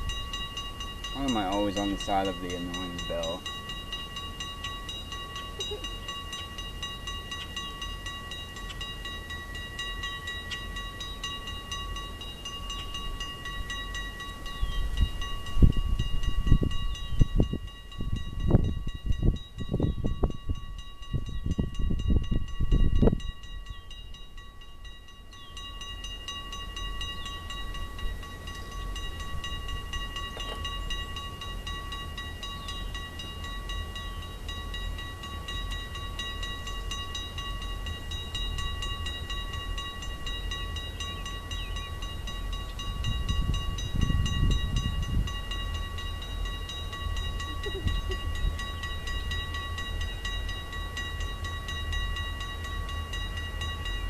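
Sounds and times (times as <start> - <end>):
crossing bell ringing: 0.0 - 54.0.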